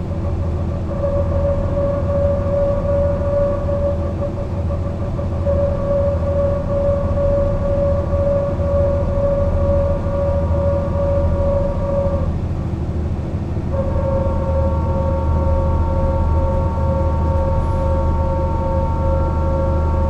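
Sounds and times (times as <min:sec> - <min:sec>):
bus diesel engine rumble: 0:00.0 - 0:20.0
high whine: 0:00.0 - 0:20.0.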